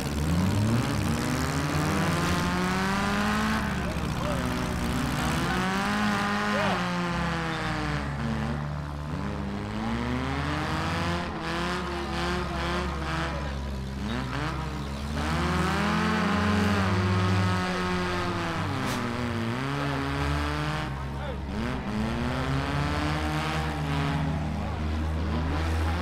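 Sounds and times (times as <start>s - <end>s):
car engines revving hard: 0.0s - 26.0s
tires spinning: 0.0s - 26.0s.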